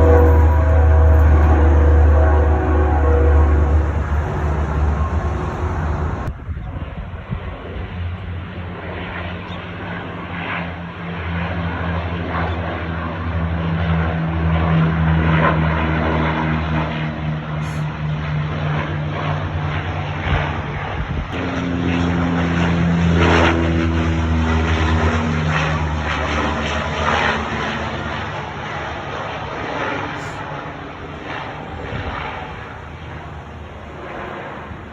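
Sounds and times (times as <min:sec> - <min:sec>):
propeller airplane engine droning: 0:00.0 - 0:34.9.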